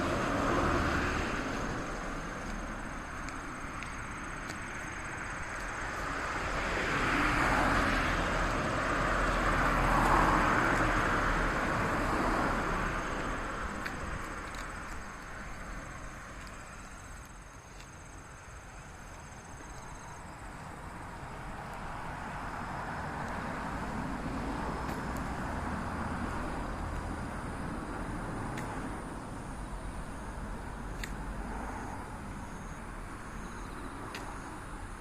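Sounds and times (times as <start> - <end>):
vehicle passing by: 0.0 - 16.9, 20.8 - 35.0.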